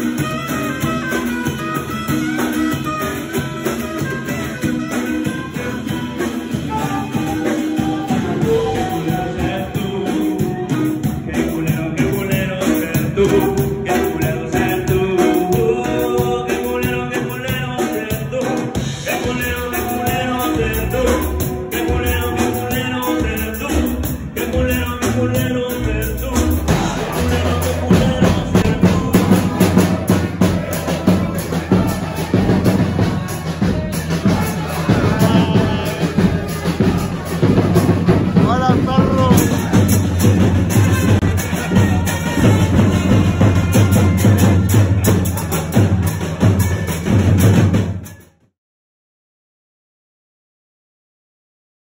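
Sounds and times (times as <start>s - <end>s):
band music with singing: 0.0s - 48.4s.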